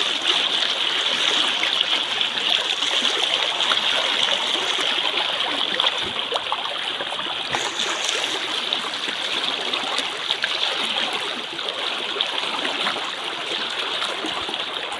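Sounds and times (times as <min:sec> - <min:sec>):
stream water flowing: 0:00.0 - 0:14.9.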